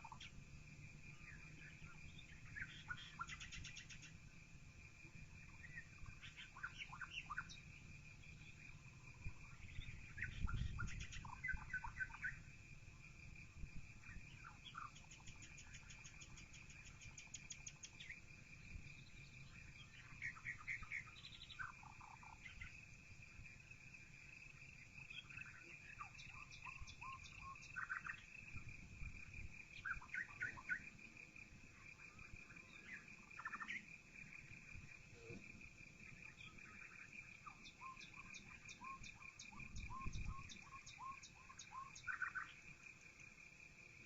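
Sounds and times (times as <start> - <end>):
songbirds chirping and singing: 0.0 - 44.0.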